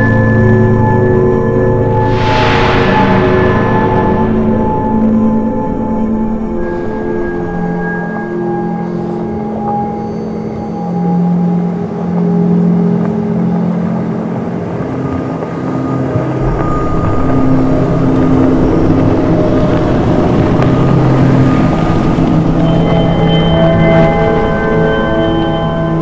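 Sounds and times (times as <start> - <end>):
music of long held notes: 0.0 - 26.0.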